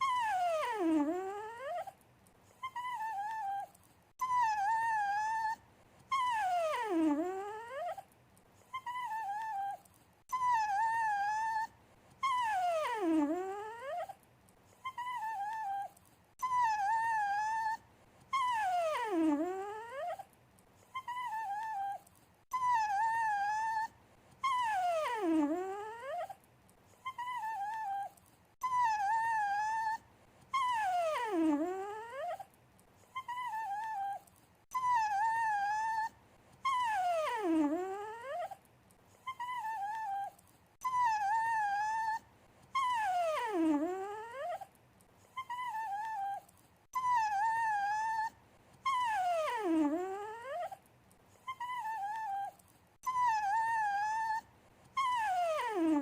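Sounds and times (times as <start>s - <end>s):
dog whining: 0.0s - 14.2s, 14.8s - 56.0s.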